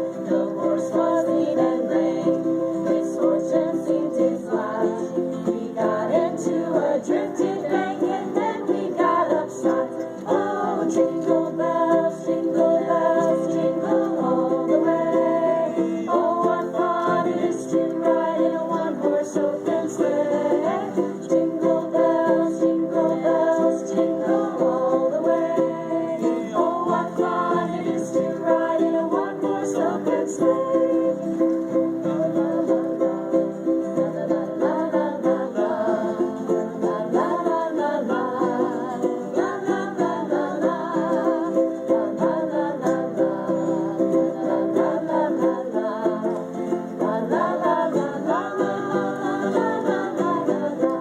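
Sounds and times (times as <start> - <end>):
plucked string instruments playing: 0.0 - 51.0.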